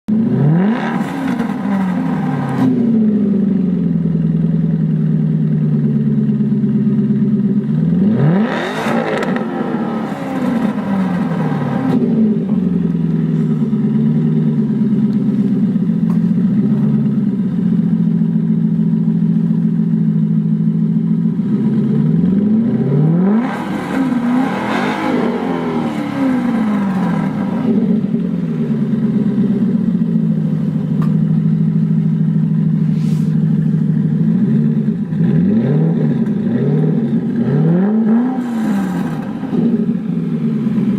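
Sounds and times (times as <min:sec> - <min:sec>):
car engine idling and revving: 0:00.1 - 0:40.9.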